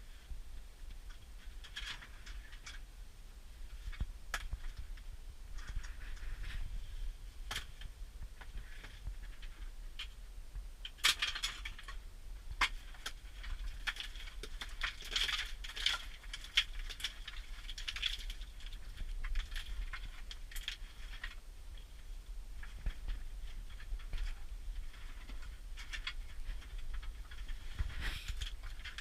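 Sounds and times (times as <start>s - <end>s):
clicks taps and scraping rattles: 3.7s - 29.0s.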